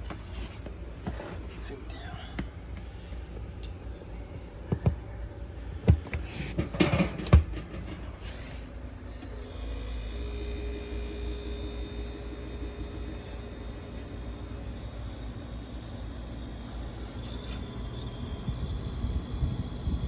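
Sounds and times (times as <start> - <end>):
refrigerator compressor hum: 0.0 - 20.0.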